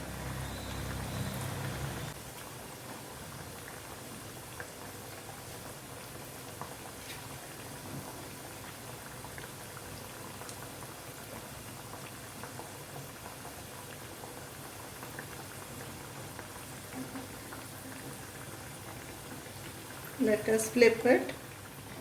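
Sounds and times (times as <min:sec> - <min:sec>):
fritters frying in hot oil: 0:00.0 - 0:22.0.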